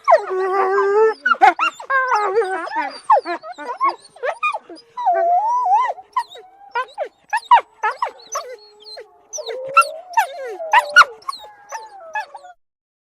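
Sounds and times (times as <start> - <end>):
dog yipping and yelping: 0.0 - 12.5
dog whining: 0.0 - 12.6.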